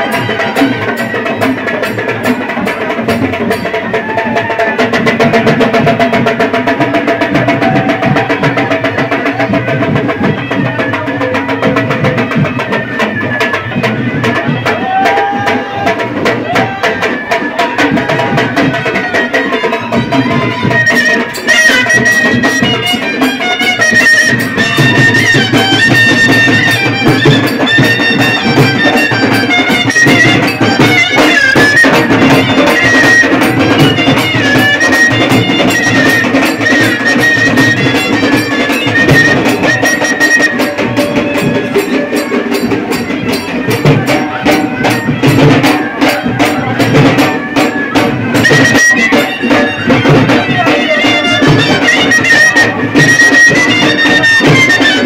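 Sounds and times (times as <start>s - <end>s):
fast heavy drumming: 0.0s - 55.0s
reedy wind instrument melody: 0.0s - 55.0s.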